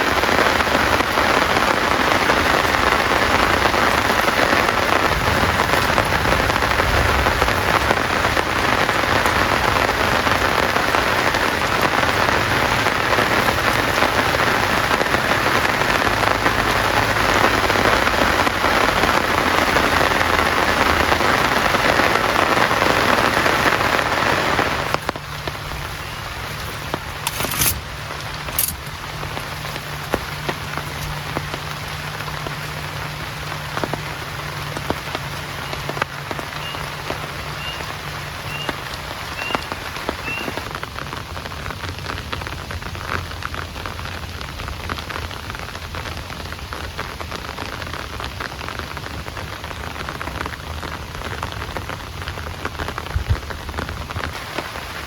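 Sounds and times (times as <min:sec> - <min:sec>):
heavy rain falling: 0:00.0 - 0:55.0
raindrops ticking on a surface: 0:00.0 - 0:55.0.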